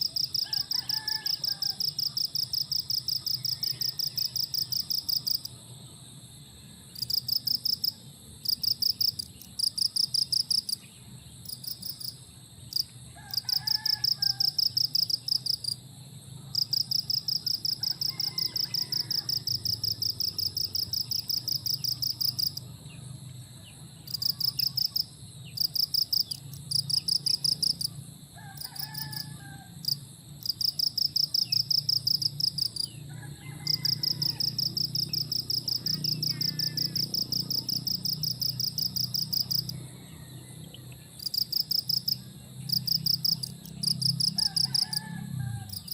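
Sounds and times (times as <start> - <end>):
insects chirping in pulsing bursts: 0.0 - 45.9.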